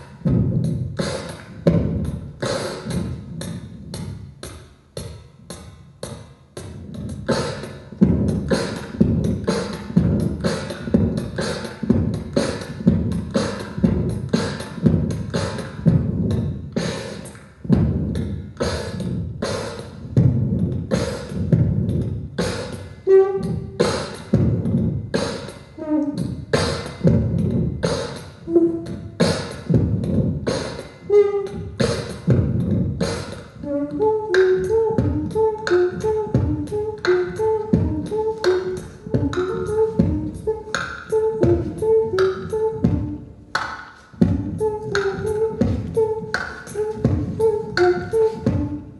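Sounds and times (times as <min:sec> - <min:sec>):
person beatboxing: 0:00.0 - 0:48.9.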